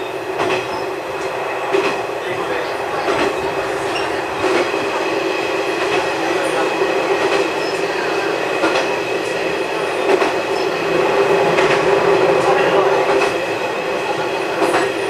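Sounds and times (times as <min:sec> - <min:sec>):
diesel railcar engine hum: 0:00.0 - 0:15.0.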